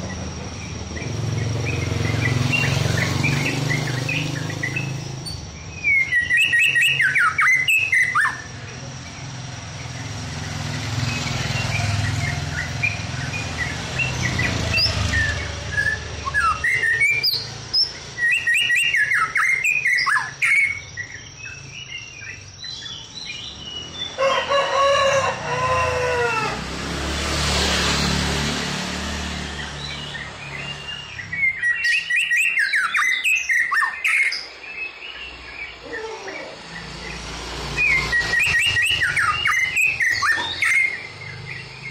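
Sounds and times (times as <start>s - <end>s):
bird whistling song: 0.0s - 24.2s, 29.5s - 41.9s.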